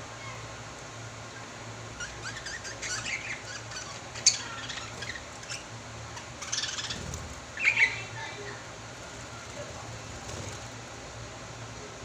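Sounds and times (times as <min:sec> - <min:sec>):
small birds chirping and squawking: 0:00.2 - 0:10.9.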